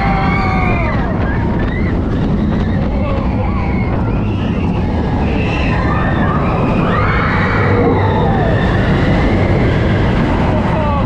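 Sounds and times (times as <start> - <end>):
riders screaming: 0.0 - 11.0
roller coaster rumbling on track: 0.0 - 11.0
wind rushing over microphone: 0.0 - 11.0.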